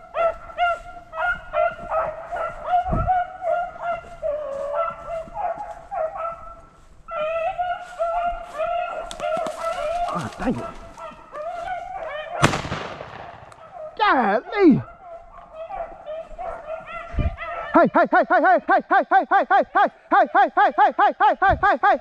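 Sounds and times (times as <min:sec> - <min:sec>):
beagles baying and yipping: 0:00.0 - 0:12.8, 0:13.4 - 0:21.0.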